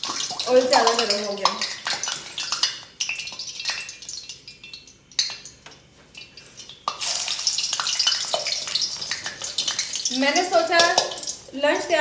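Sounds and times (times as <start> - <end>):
utensils and dishes clattering: 0.0 - 5.6, 6.2 - 11.4.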